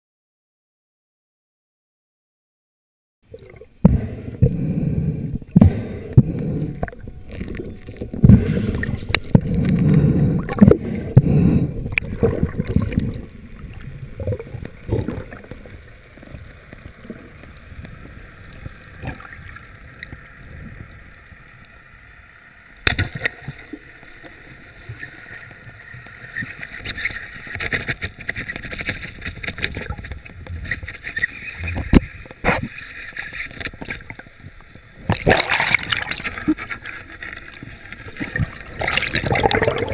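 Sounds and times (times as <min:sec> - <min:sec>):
rushing bubbling water underwater: 0:03.3 - 0:21.4, 0:22.8 - 0:39.9.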